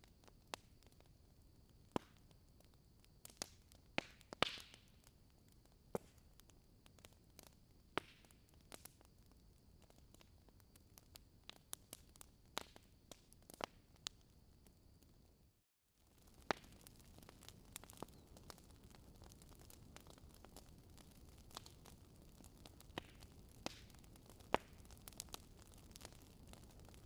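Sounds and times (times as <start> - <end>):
wood crackling and popping: 0.0 - 15.2, 16.0 - 27.0.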